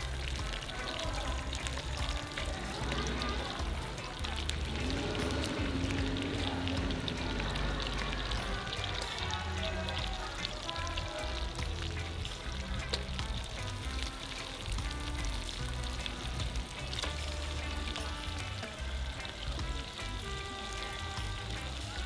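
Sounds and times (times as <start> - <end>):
background music with bass line: 0.0 - 22.0
crayfish sizzling in a wok: 0.0 - 22.0.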